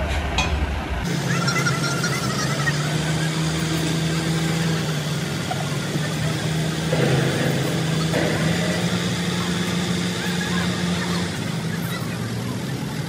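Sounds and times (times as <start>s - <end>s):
truck engine humming: 0.6s - 13.0s.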